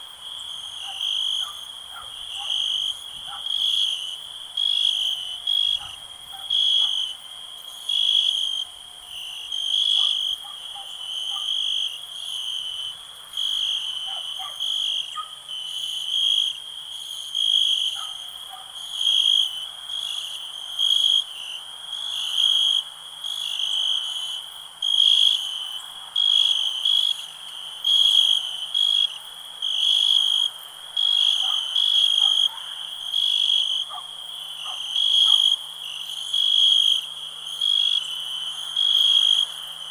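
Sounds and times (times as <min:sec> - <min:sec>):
crickets chirping in pulses: 0:00.0 - 0:39.9
high-pitched insect trill: 0:00.2 - 0:39.9.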